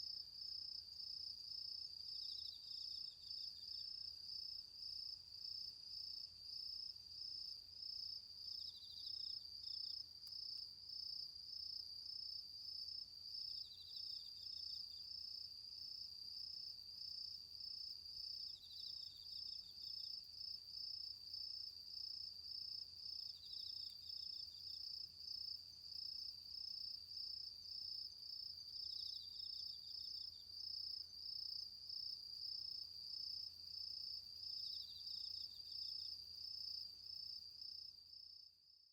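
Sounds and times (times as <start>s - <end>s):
insect chirping: 0.0s - 38.9s.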